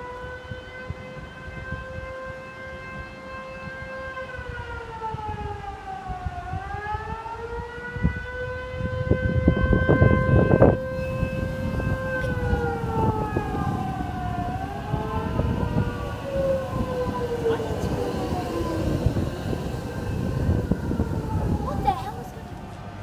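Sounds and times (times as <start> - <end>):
electric train inverter whine: 0.0 - 23.0.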